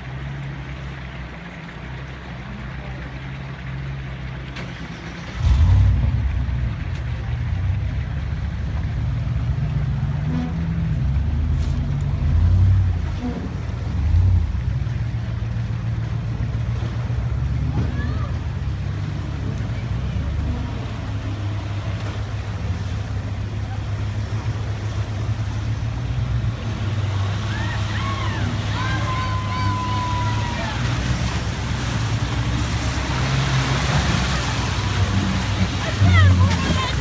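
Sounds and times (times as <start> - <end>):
vehicle engine revving: 4.5 - 37.0.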